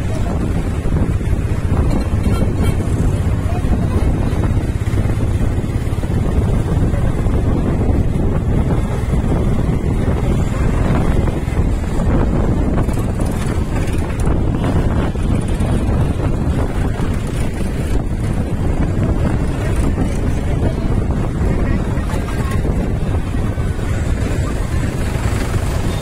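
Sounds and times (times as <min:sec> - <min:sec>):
diesel tractor engines: 0:00.0 - 0:26.0
wind rumbling on microphone: 0:00.0 - 0:26.0.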